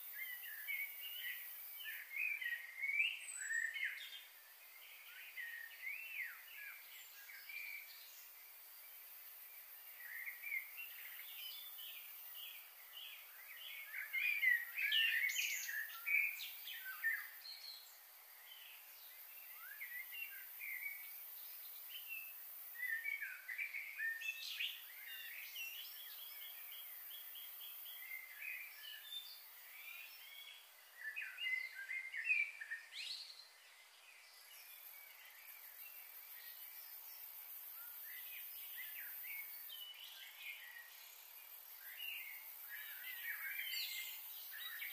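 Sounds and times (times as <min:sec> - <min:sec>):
faint high hiss: 0:00.0 - 0:44.9
small songbirds chirping: 0:00.0 - 0:44.9.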